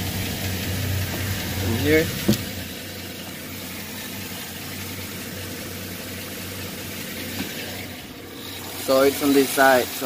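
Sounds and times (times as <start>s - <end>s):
car engine idling: 0.0s - 10.0s
engine ticking: 0.0s - 10.0s.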